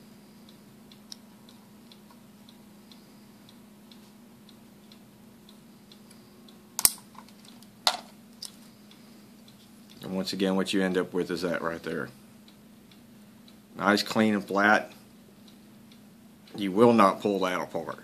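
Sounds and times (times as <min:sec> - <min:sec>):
low steady hum: 0:00.0 - 0:18.0
soft ticking: 0:00.1 - 0:18.0.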